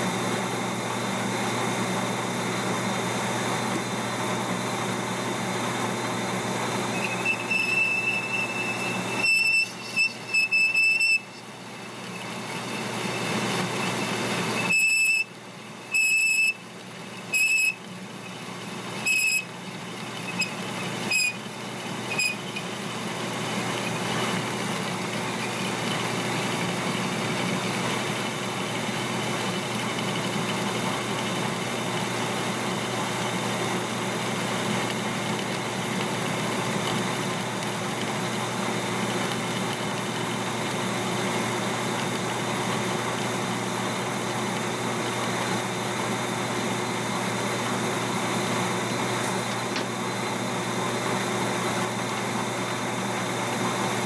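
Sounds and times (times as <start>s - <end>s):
metal lathe humming: 0.5s - 54.0s.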